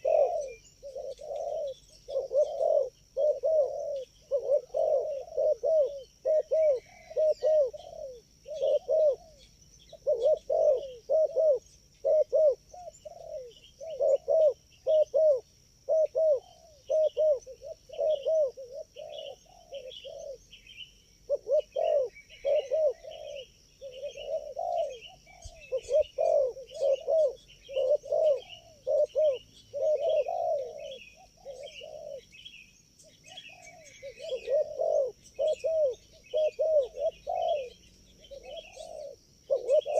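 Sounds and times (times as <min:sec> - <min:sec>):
doves cooing: 0:00.0 - 0:20.5, 0:21.2 - 0:39.9
high insect drone: 0:00.0 - 0:39.9
small birds chirping: 0:00.0 - 0:39.9.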